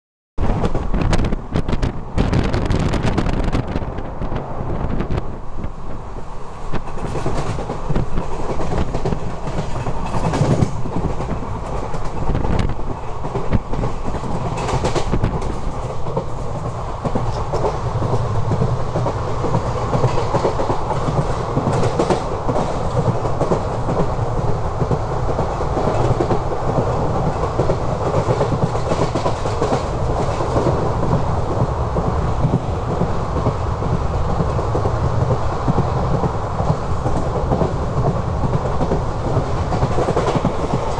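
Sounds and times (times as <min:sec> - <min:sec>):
train wheels rumbling on rail: 0:00.4 - 0:40.9
wheels clacking over rail joints: 0:06.7 - 0:40.9.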